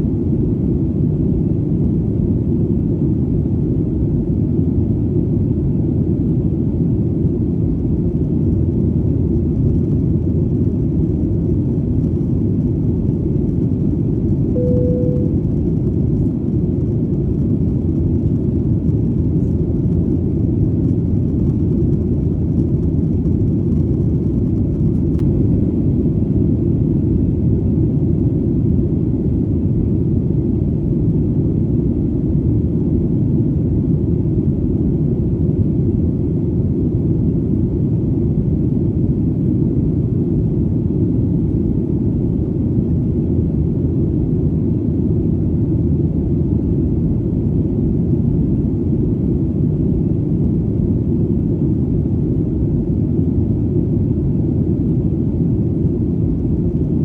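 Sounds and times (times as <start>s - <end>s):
airplane drone in flight: 0.0s - 57.0s.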